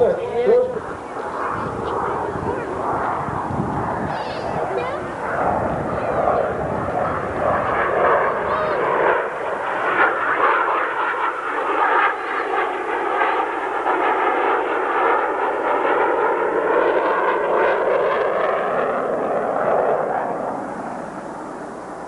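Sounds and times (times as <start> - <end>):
jet aircraft passing and climbing: 0.0 - 22.0.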